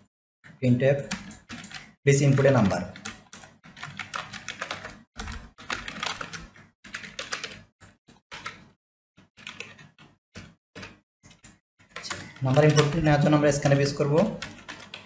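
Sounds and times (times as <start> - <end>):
keyboard keys clicking: 1.0 - 7.7, 8.3 - 8.7, 9.4 - 15.0.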